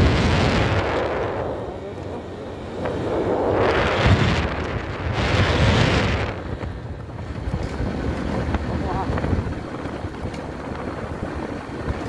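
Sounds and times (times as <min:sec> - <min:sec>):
motorcycle rumble: 0:00.0 - 0:12.0
wind buffeting microphone: 0:00.0 - 0:12.0.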